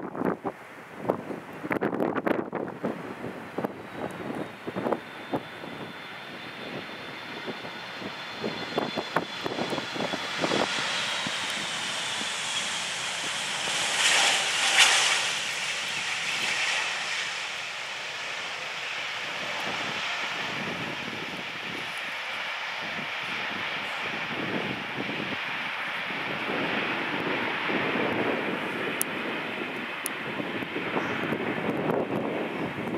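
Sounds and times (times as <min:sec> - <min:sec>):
jet engine whine: 0:00.0 - 0:32.9
wind buffeting microphone: 0:00.0 - 0:32.9.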